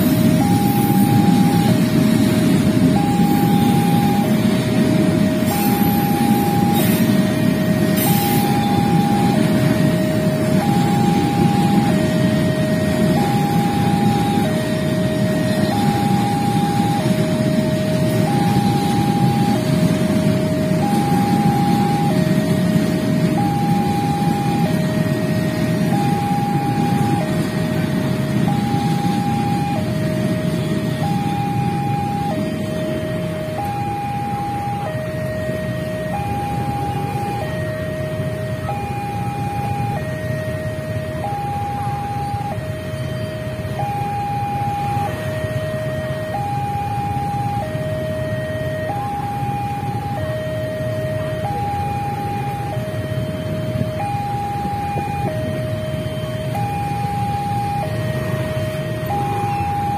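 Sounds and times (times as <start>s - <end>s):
idling traffic engines rumble: 0.0s - 59.9s
level crossing two-tone alarm: 0.0s - 59.9s.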